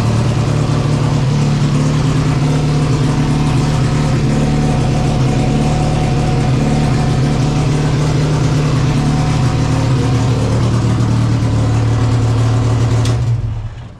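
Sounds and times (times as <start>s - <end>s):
race car engine idling: 0.0s - 13.9s.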